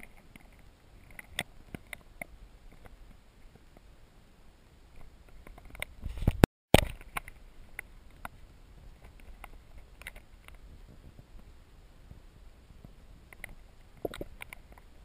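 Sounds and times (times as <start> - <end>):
small clicks and ticks: 0.0 - 3.9, 4.9 - 11.5, 12.1 - 15.0.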